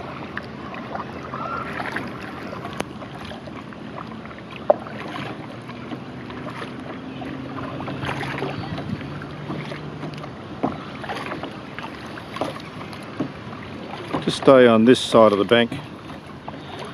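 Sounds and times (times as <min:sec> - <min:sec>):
paddle splashing in water: 0:00.0 - 0:16.9
water dripping off paddle: 0:00.2 - 0:16.9.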